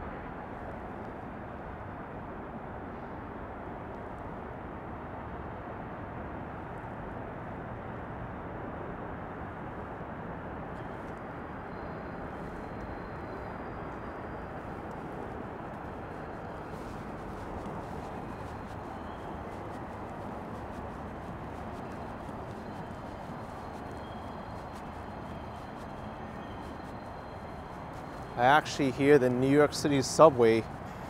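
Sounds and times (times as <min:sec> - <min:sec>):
distant city traffic hum: 0:00.0 - 0:31.0.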